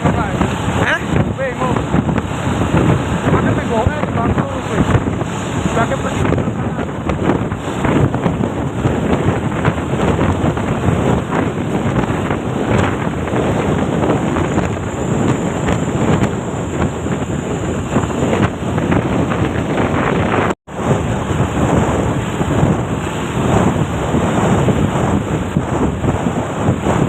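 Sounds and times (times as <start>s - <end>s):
vehicle rumble on road: 0.0s - 27.0s
wind buffeting microphone: 0.0s - 27.0s.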